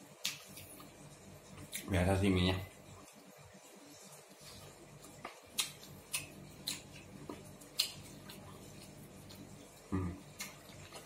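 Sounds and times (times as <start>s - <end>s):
faint steady hum: 0.0s - 11.0s
person chewing with wet clicks: 0.2s - 2.0s, 3.0s - 11.0s.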